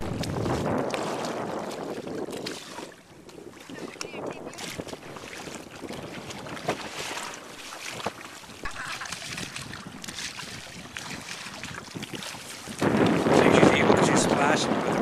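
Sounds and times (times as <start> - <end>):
water splashing against a kayak: 0.0 - 15.0
wind buffeting microphone: 0.0 - 15.0.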